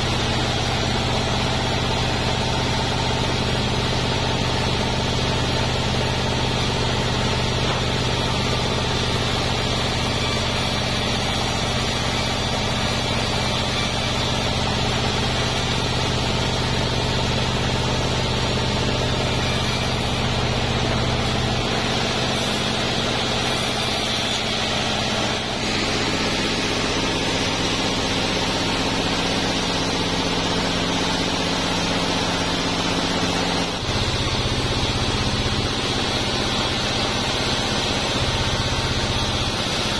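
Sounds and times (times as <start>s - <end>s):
band sawmill humming: 0.0s - 39.9s.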